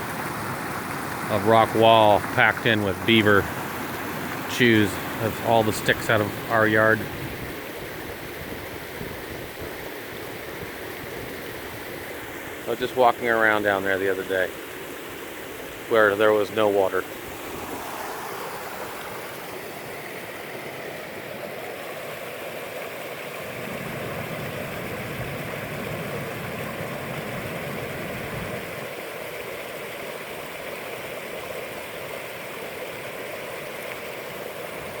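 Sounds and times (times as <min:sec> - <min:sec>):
water pouring over dam: 0:00.0 - 0:35.0.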